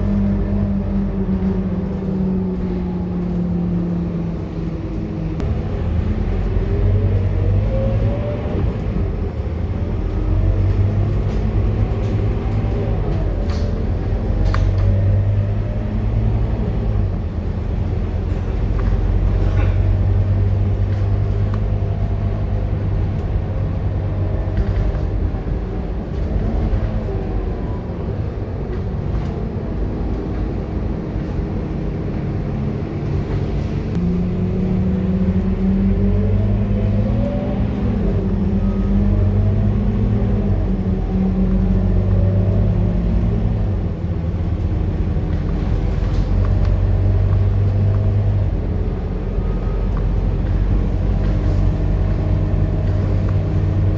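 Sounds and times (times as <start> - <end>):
bus diesel engine accelerating: 0.0 - 53.9.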